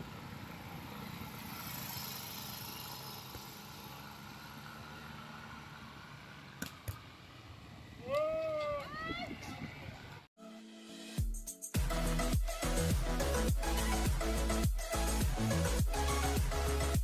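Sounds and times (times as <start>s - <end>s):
wind: 0.0s - 10.4s, 11.8s - 17.0s.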